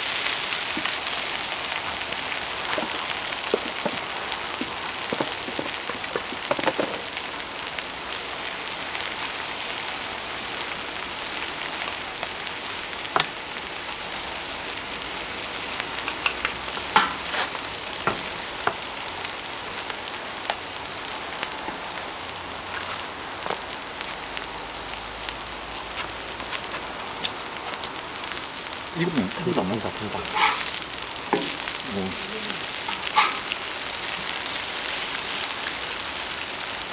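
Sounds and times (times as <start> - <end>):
oil crackling and popping: 0.0 - 36.9
pancakes sizzling in oil: 0.0 - 36.9.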